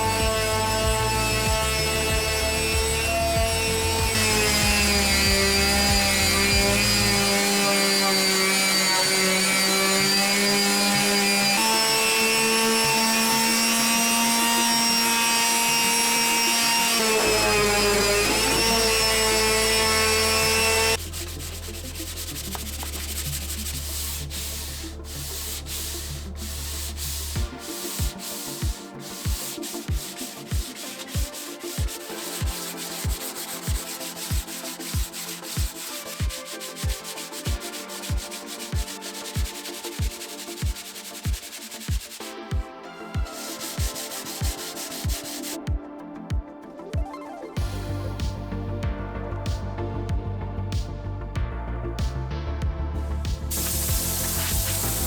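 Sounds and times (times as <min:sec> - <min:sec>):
wood being sanded: 0:00.0 - 0:42.3, 0:43.2 - 0:45.7, 0:53.5 - 0:55.0
background music with bass line: 0:00.0 - 0:55.0.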